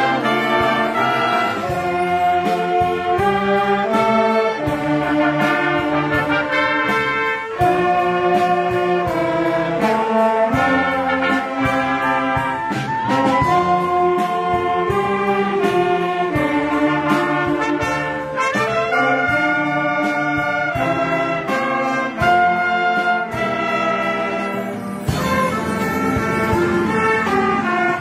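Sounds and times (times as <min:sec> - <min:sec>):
drum strokes: 0:00.0 - 0:28.0
orchestra playing held chords: 0:00.0 - 0:28.0.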